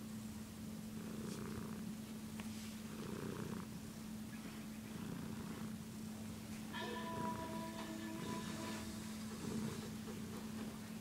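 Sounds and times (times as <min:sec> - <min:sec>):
cat purring: 0:00.8 - 0:02.0, 0:02.8 - 0:11.0.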